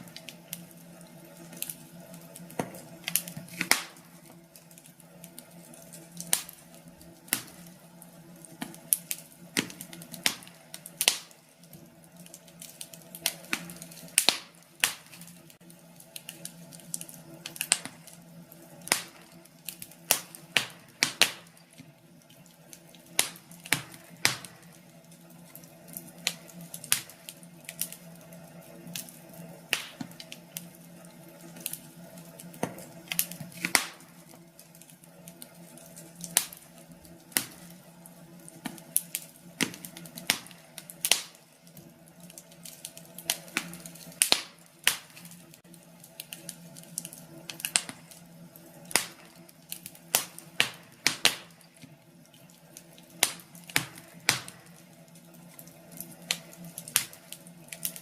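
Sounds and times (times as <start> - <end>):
faint steady hum: 0.0 - 58.0
wood fire crackling and popping: 0.0 - 58.0.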